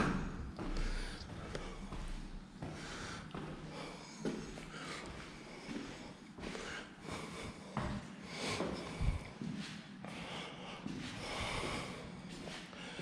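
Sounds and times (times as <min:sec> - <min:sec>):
person breathing and sniffing: 0:00.6 - 0:13.0.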